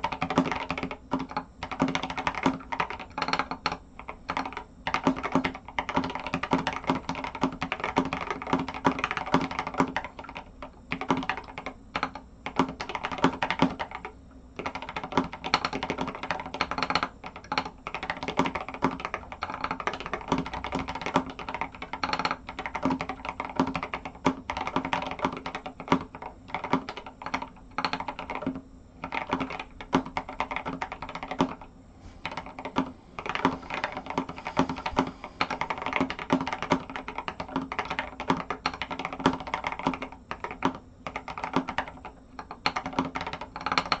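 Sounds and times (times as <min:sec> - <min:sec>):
fast mechanical keyboard typing: 0:00.0 - 0:44.0.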